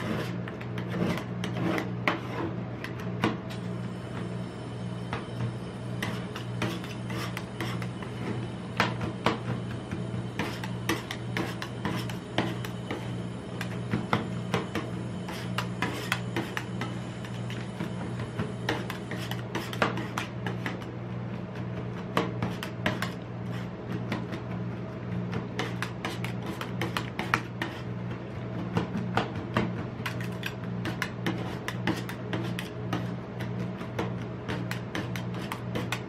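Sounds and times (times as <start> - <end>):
spatulas scraping ice cream: 0.0 - 3.0, 6.0 - 28.5, 30.0 - 36.0
steady low hum: 0.0 - 36.0.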